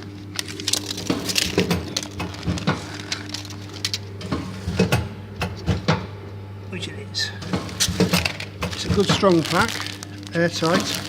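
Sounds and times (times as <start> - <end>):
plastic film packs rustling: 0.0 - 5.6, 7.5 - 11.0
packaging line clicks: 0.0 - 6.0, 7.5 - 11.0
bagging machine humming: 0.0 - 11.0.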